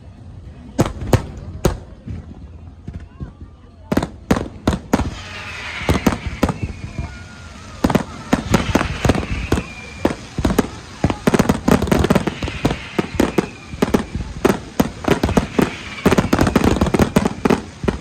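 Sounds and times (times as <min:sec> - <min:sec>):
fireworks and firecrackers banging: 0:00.0 - 0:18.0.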